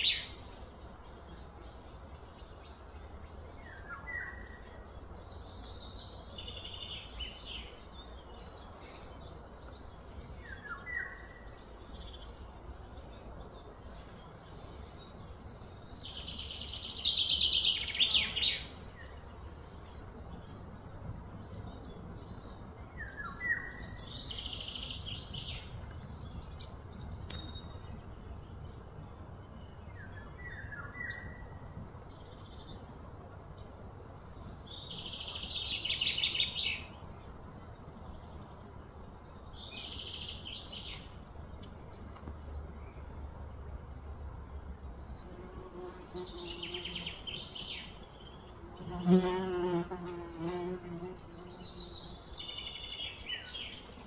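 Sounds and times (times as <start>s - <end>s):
birds chirping: 0.0s - 54.0s
low outdoor hum: 0.0s - 54.0s.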